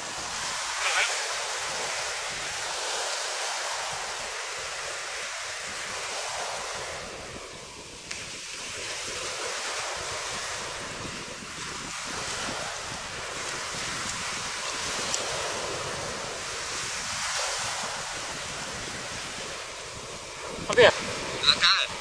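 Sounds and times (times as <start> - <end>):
surf on a beach: 0.0 - 22.0
wind buffeting microphone: 0.0 - 22.0.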